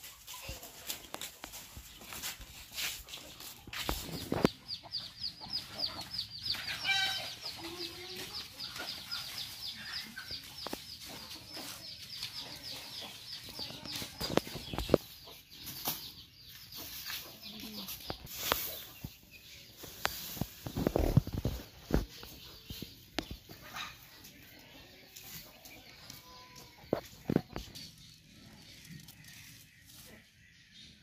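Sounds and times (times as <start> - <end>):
chicken clucking and squawking: 2.8 - 30.8.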